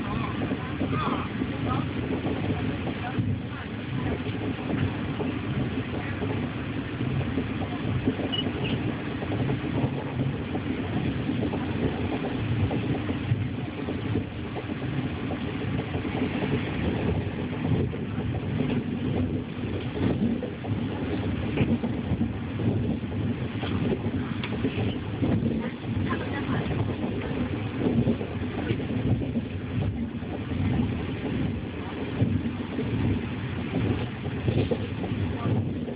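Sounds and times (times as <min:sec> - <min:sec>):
electric train rumble from inside: 0:00.0 - 0:35.9.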